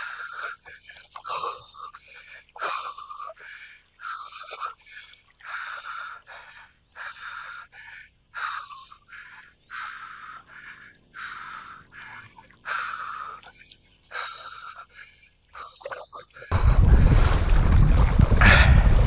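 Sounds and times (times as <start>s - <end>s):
man breathing heavily: 0.0s - 17.5s, 18.4s - 19.0s.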